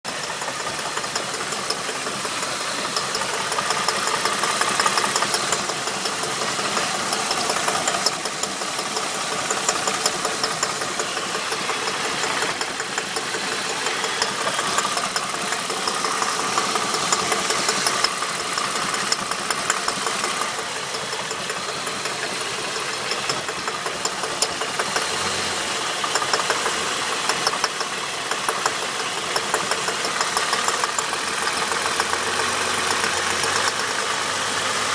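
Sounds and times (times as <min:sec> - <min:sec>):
car engine running: 0:00.0 - 0:34.9
fast knocking rattle: 0:00.1 - 0:25.2, 0:25.9 - 0:34.2.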